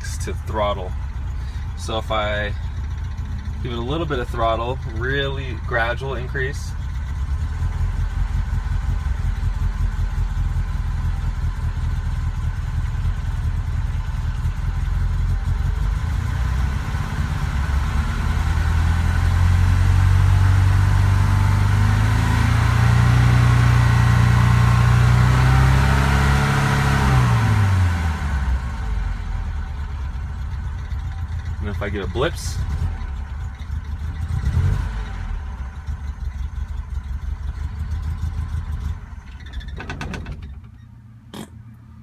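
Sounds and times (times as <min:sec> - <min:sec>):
misfiring car engine revving: 0:00.0 - 0:41.7.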